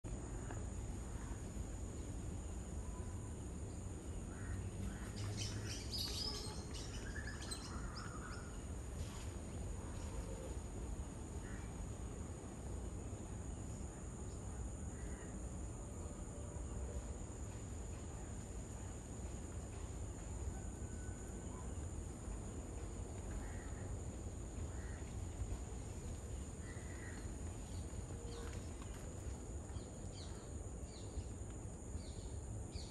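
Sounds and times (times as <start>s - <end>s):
high insect drone: 0.1s - 32.9s.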